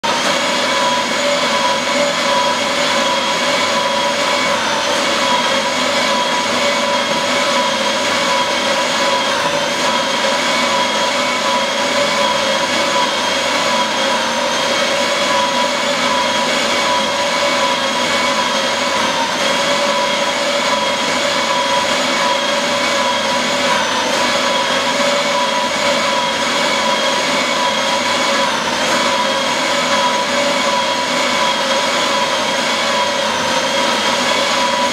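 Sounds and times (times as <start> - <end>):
paper shredder running: 0.0 - 34.9.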